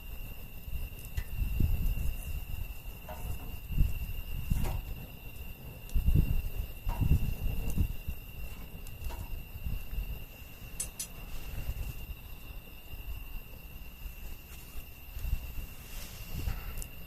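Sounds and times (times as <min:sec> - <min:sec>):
insect trill: 0:00.0 - 0:17.0
wood fire crackling: 0:00.0 - 0:17.0.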